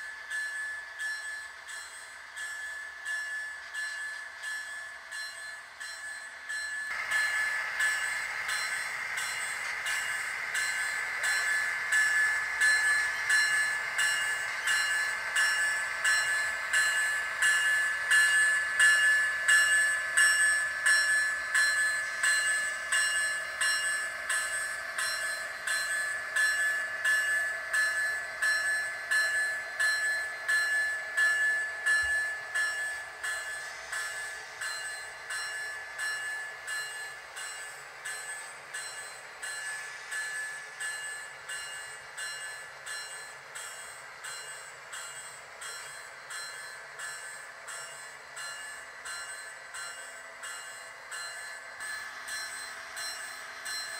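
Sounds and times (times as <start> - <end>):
model train wheels clicking: 0.0 - 53.9.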